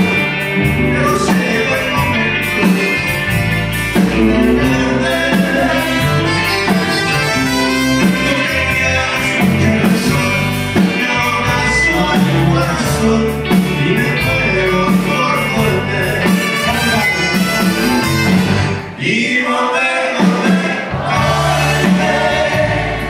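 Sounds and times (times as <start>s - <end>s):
man singing: 0.0s - 3.4s, 4.0s - 22.7s
accordion band playing: 0.0s - 19.0s, 19.7s - 23.0s.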